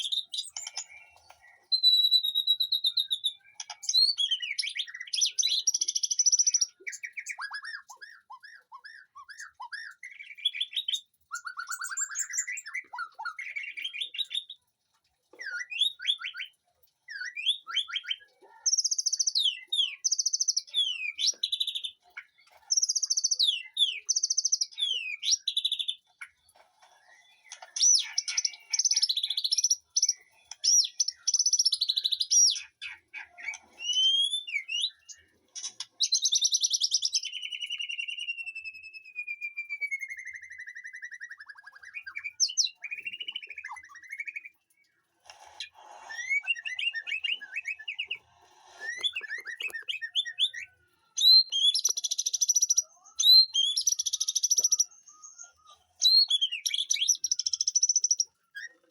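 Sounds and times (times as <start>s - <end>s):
bird singing whistled song: 0.0s - 14.6s, 15.4s - 26.3s, 27.0s - 44.9s, 45.6s - 58.9s.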